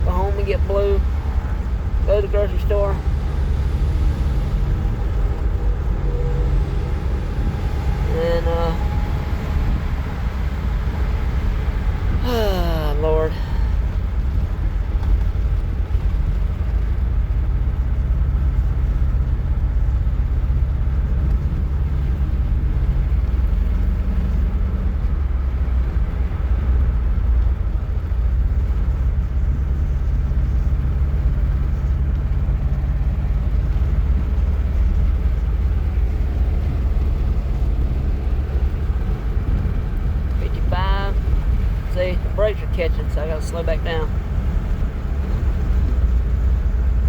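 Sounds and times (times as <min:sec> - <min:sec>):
low engine hum: 0:00.0 - 0:47.0
road and engine rumble: 0:00.0 - 0:47.0.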